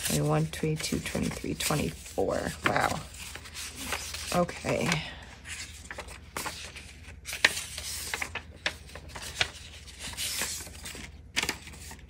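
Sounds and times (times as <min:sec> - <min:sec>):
paper bills rustling: 0:00.0 - 0:12.0.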